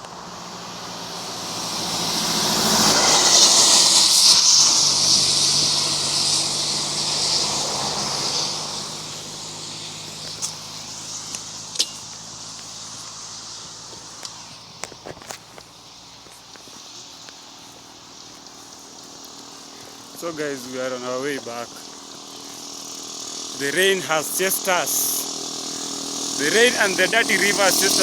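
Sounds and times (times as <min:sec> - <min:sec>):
vehicle passing by: 0:00.0 - 0:28.0.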